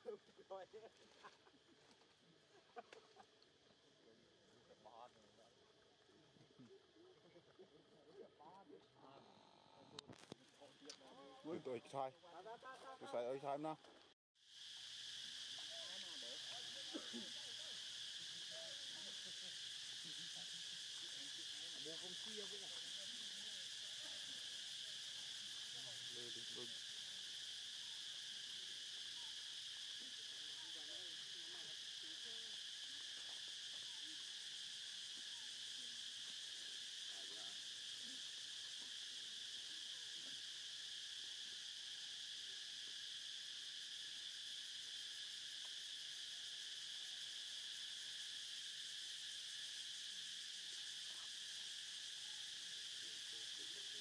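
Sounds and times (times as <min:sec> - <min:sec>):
insect chorus buzzing: 0:00.0 - 0:13.8, 0:14.4 - 0:54.0.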